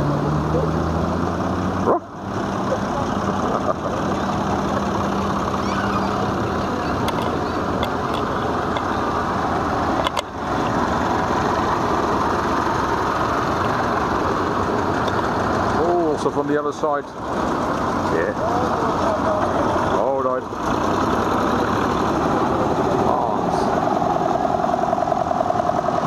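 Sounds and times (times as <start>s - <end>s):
tractor engines chugging: 0.0s - 26.0s.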